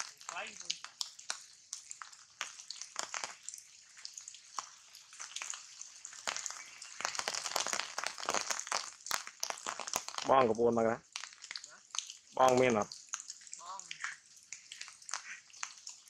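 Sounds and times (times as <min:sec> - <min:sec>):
rain drips and ticks: 0:00.0 - 0:16.0
rain hissing on leaves: 0:00.0 - 0:16.0.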